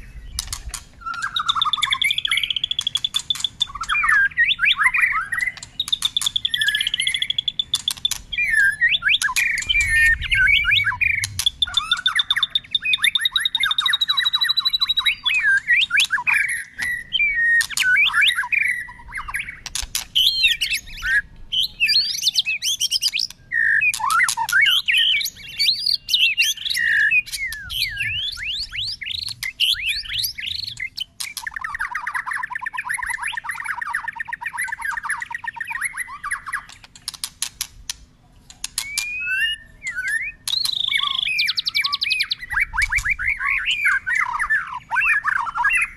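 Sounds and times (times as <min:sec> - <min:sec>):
bird singing: 0:00.0 - 0:45.9.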